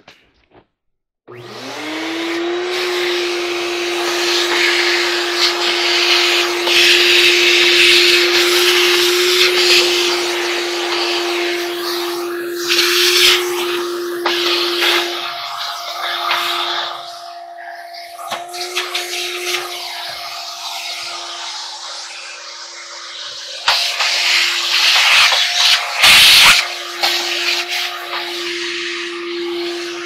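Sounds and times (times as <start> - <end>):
shop vacuum motor whine: 1.3 - 30.0
air rushing through hose: 2.7 - 30.0.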